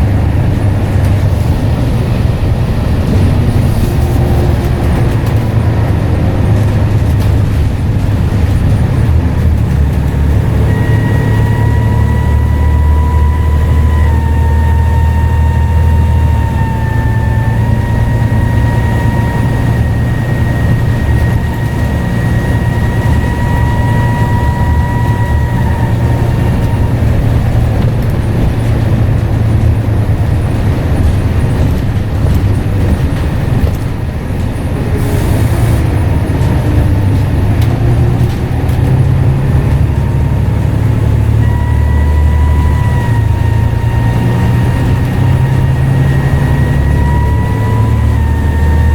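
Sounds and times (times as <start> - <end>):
bus engine drone: 0.0 - 48.9
turbocharger whistling: 0.0 - 48.9.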